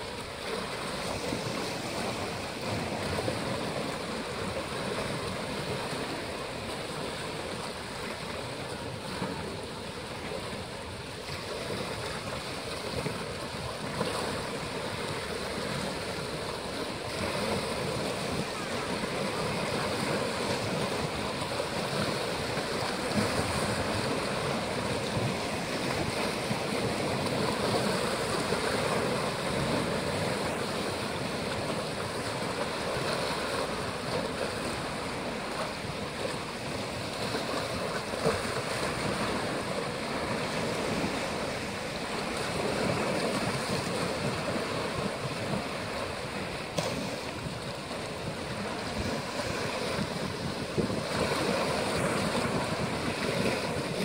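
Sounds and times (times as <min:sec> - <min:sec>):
waves splashing on rocky shore: 0:00.0 - 0:54.0.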